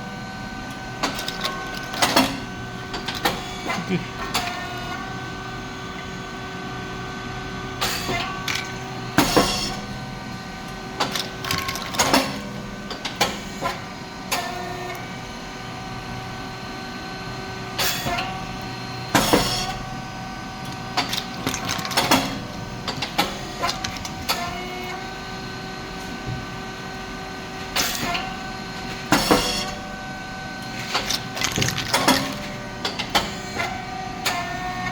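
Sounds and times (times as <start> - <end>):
motor and pump hum: 0.0 - 34.9.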